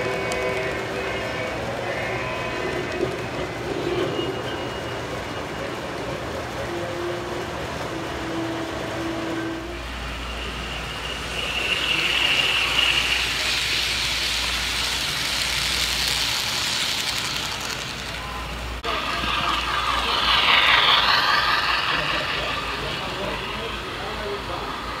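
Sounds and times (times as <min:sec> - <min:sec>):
model freight cars rolling: 0:00.0 - 0:25.0
model locomotive rolling past: 0:00.0 - 0:25.0.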